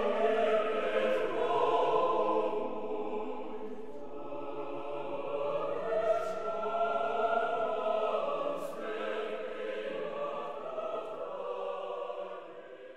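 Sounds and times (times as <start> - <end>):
choir singing sustained chords: 0.0 - 12.9.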